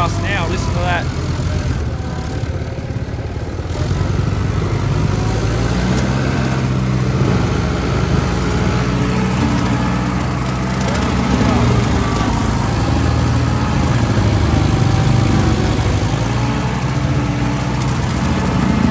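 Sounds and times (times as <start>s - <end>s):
tractor engine running under load: 0.0s - 18.9s.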